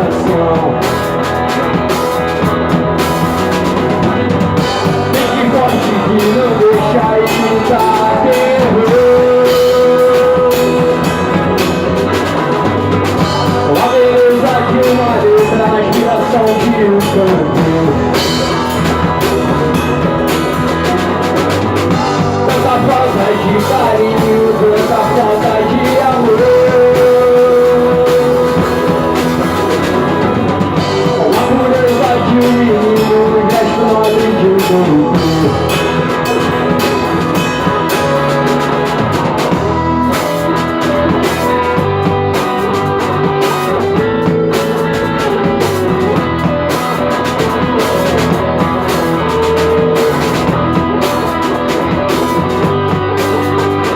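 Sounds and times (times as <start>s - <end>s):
rock band music: 0.0s - 53.9s.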